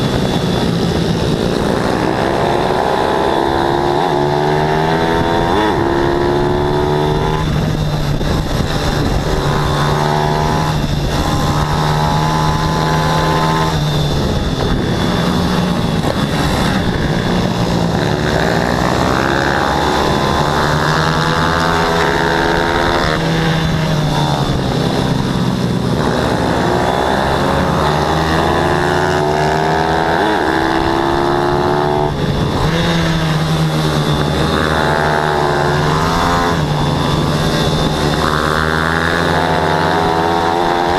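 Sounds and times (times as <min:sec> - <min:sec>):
pit bike engines revving: 0:00.0 - 0:40.9.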